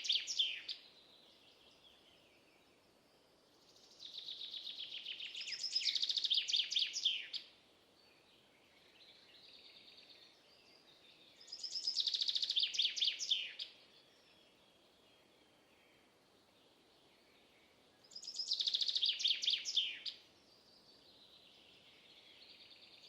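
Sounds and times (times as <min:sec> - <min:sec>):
faint soft bird song: 0:00.0 - 0:23.0.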